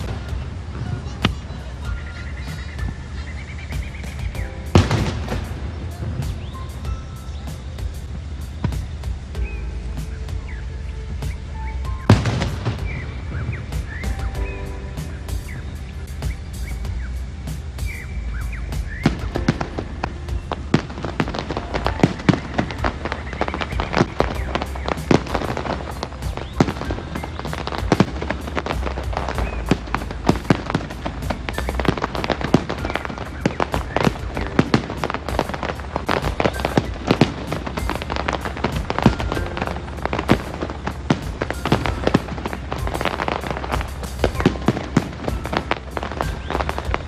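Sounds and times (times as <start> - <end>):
fireworks bangs and crackles: 0.0 - 47.0
steady low rumble: 0.0 - 47.0.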